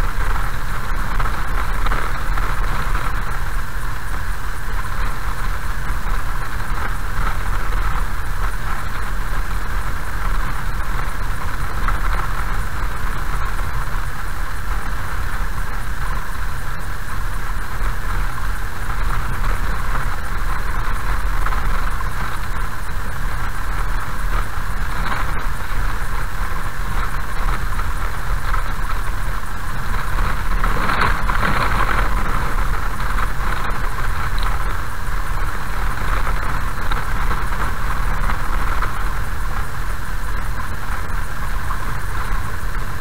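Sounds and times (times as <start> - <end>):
car engine noise: 0.0 - 43.0.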